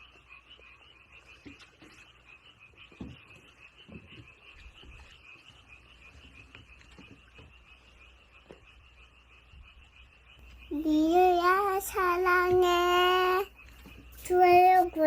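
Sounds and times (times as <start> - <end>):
frogs trilling: 0.0 - 15.0.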